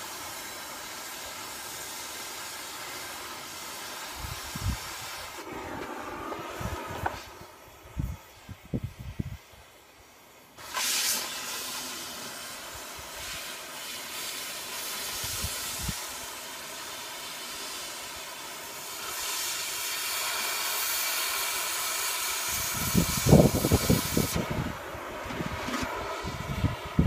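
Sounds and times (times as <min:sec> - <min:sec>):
cutting torch hissing: 0:00.0 - 0:27.0.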